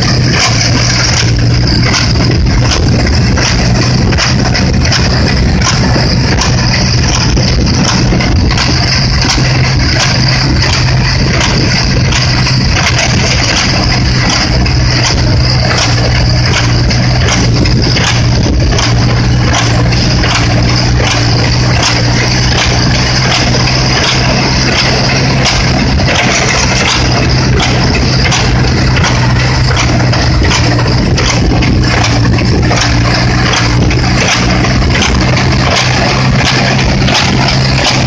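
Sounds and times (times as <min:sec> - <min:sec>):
baler knocking: 0:00.0 - 0:38.0
engine hum: 0:00.0 - 0:38.0.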